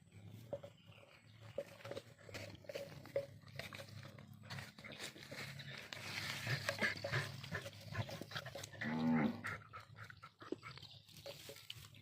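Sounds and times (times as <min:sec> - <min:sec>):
dogs scuffling and chewing: 0:00.2 - 0:12.0.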